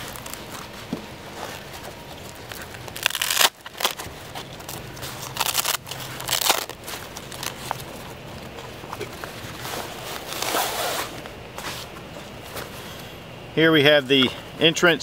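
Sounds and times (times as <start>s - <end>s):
nylon fabric rustling and scraping: 0.0s - 13.0s.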